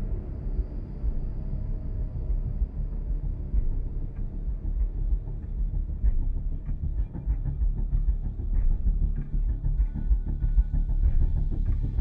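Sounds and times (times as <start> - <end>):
deep rumbling bass music: 0.0 - 12.0.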